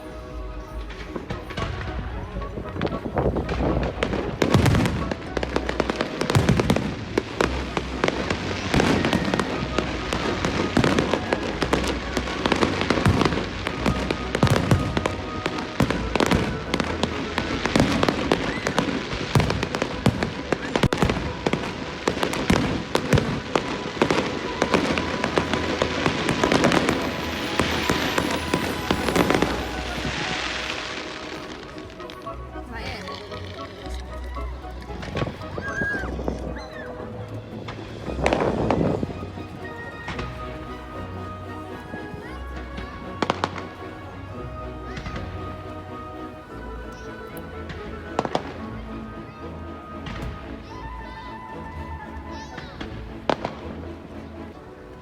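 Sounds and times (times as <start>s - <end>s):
fireworks bangs and crackles: 0.0s - 51.4s, 52.3s - 53.9s
music playing: 0.0s - 55.0s.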